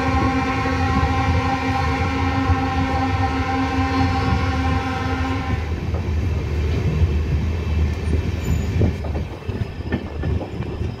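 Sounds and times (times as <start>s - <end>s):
train coach rumbling on rails: 0.0s - 11.0s.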